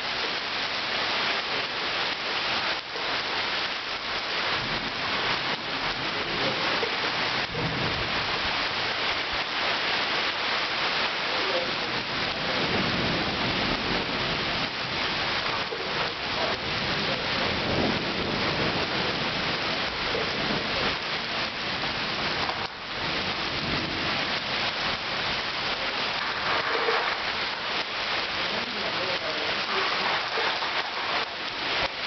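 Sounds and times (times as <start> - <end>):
heavy rain splashing: 0.0 - 32.0.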